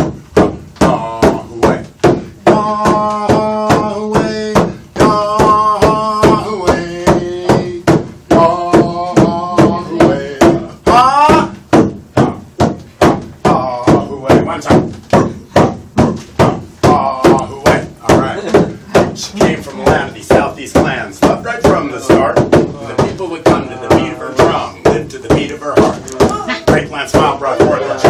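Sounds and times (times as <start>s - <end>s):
man chanting: 0.0s - 12.6s, 13.4s - 15.0s, 15.6s - 28.0s
frame drum beats: 0.0s - 28.0s.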